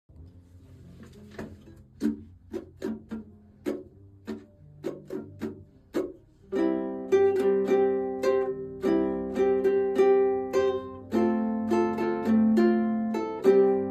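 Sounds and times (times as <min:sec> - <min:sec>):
plucked string instrument music: 0:00.1 - 0:13.9.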